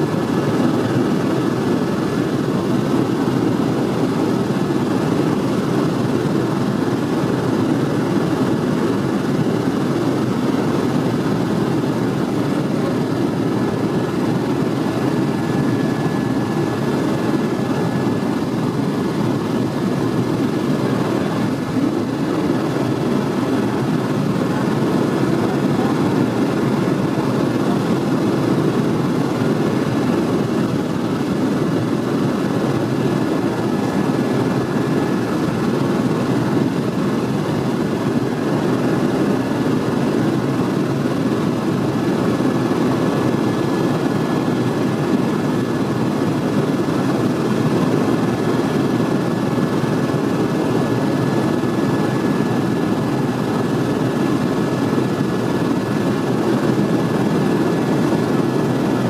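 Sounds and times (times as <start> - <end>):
thin steady whine: 0.0 - 48.4
helicopter engine and rotor drone: 0.0 - 59.0.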